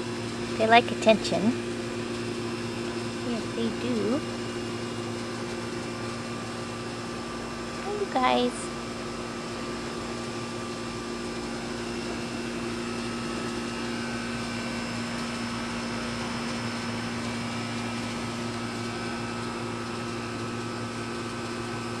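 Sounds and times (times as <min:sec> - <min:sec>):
mechanical hum with held tones: 0:00.0 - 0:22.0.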